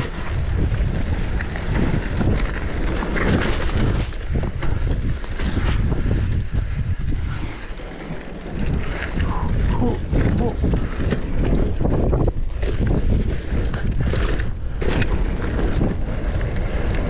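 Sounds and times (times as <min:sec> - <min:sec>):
bike rattling over bumps: 0:00.0 - 0:17.0
tyres rumbling on dirt trail: 0:00.0 - 0:17.0
wind buffeting microphone: 0:00.0 - 0:17.0.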